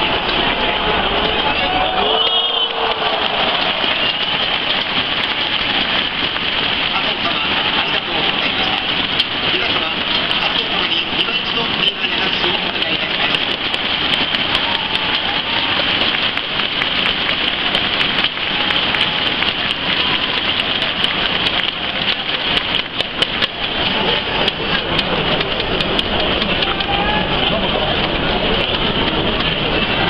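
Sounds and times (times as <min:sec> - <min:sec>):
crowd clapping and cheering: 0:00.0 - 0:30.0.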